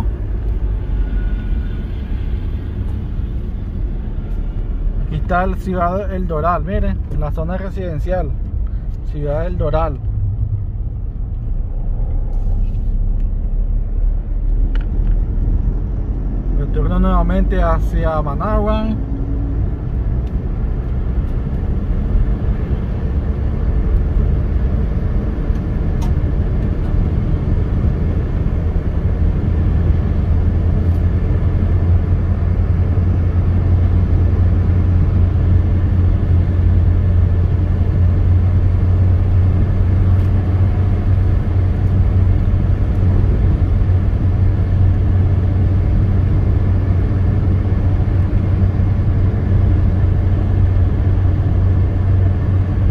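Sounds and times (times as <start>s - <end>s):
car interior highway drone: 0.0s - 52.9s.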